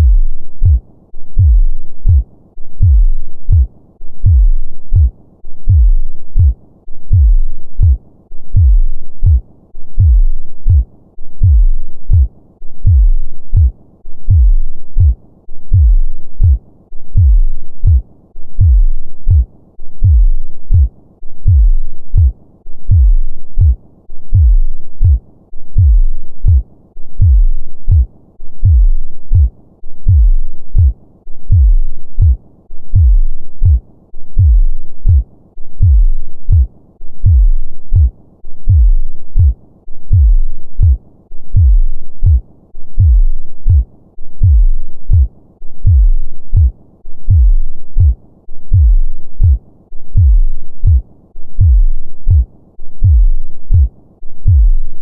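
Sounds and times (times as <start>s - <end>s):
heartbeat thumps: 0.0s - 18.0s, 18.6s - 26.6s, 27.2s - 55.0s
faint low hum: 0.0s - 55.0s.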